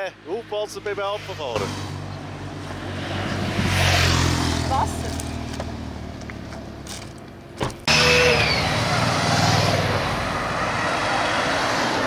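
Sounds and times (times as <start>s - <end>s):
vehicles driving past: 0.0s - 12.0s.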